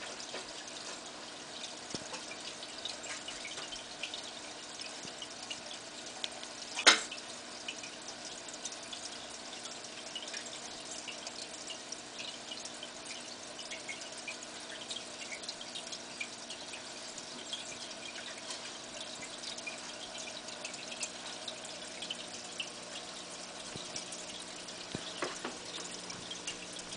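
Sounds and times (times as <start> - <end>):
aquarium water bubbling: 0.0 - 26.9
water drips and pops: 0.0 - 26.9.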